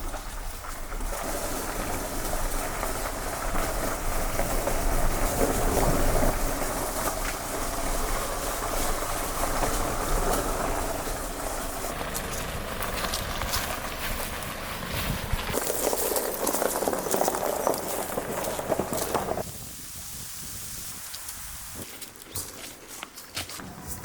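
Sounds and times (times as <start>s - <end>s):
road and tyre noise: 0.0s - 24.0s.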